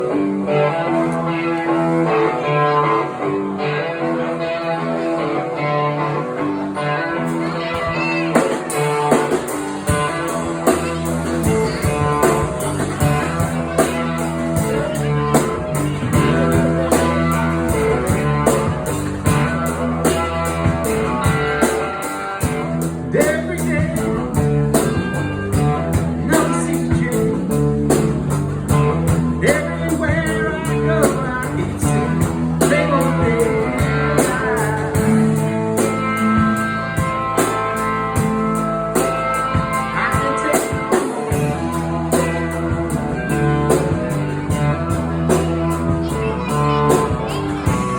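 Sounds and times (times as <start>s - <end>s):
blues-rock band playing: 0.0s - 47.9s.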